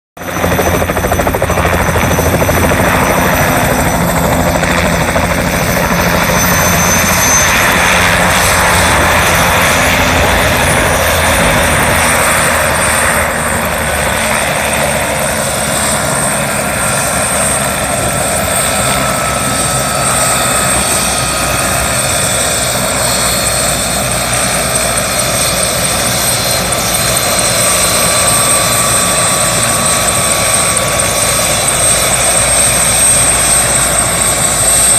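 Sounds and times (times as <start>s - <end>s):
helicopter rotor beat: 0.2s - 34.9s
high turbine whine: 0.2s - 34.9s.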